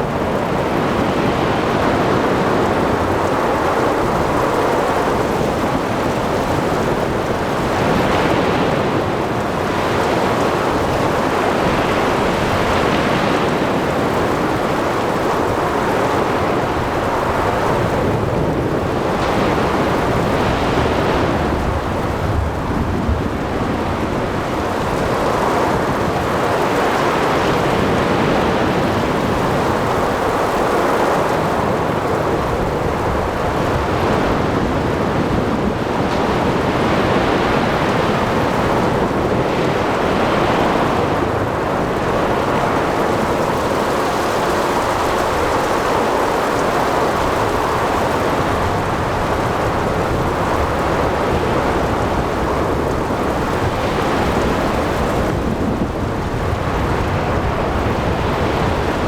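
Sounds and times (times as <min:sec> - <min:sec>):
heavy rain: 0:00.0 - 0:59.0
waves: 0:00.0 - 0:59.0
wind: 0:00.0 - 0:59.0.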